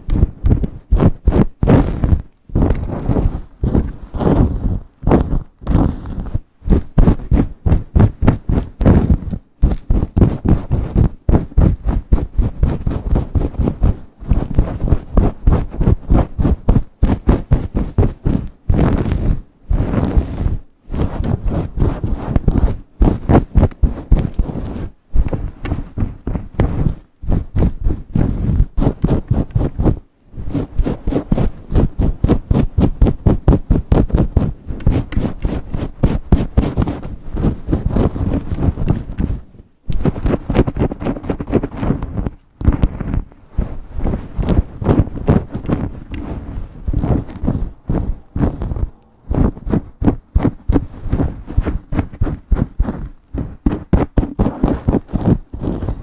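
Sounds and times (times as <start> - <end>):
fingernails scratching through hair: 0.0 - 56.0.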